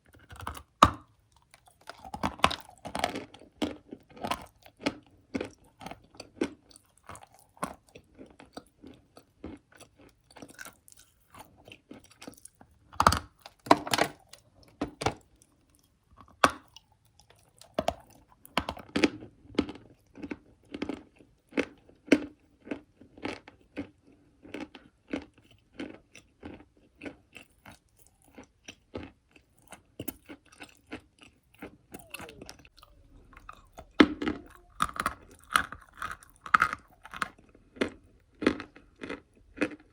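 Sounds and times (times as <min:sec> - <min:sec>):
chewing and crunching chalk: 0:00.0 - 0:39.9.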